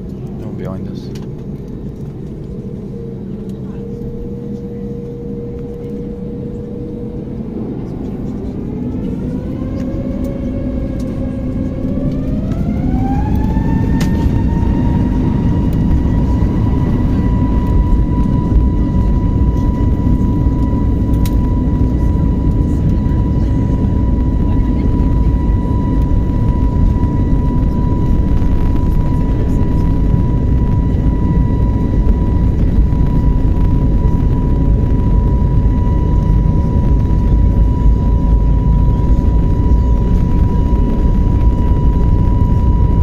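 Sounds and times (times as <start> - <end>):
jet engines roaring in cabin: 0.0 - 43.0.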